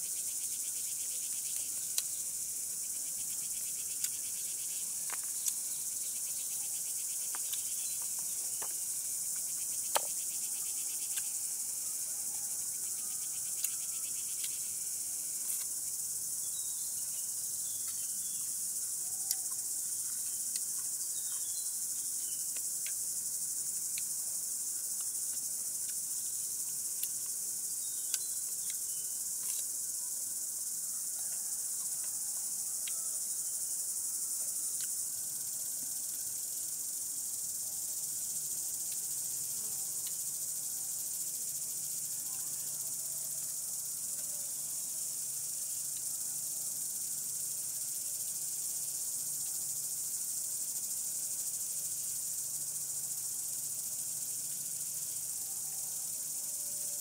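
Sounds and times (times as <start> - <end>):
cicada chorus: 0.0 - 57.0.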